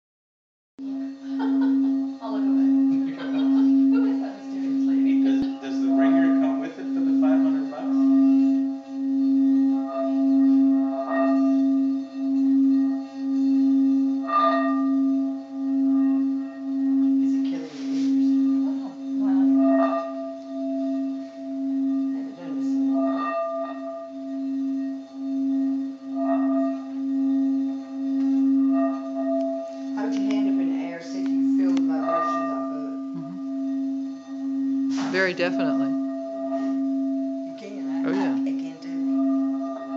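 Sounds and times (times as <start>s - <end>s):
singing bowl humming: 0.8s - 39.9s.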